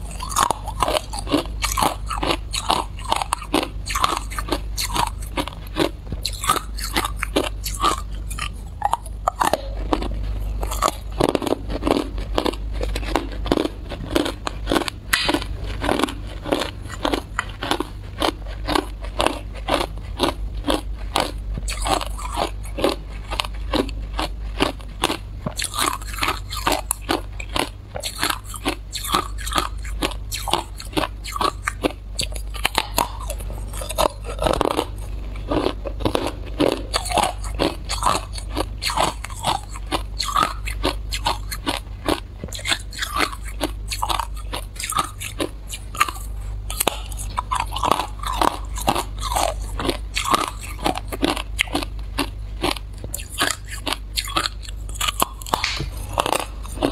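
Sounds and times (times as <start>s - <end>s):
ice crunching between teeth: 0.0s - 56.9s.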